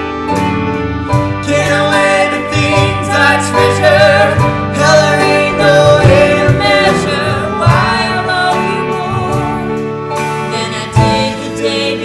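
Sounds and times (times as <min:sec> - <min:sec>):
instrumental accompaniment: 0:00.0 - 0:12.0
two men singing a ballad: 0:01.4 - 0:12.0.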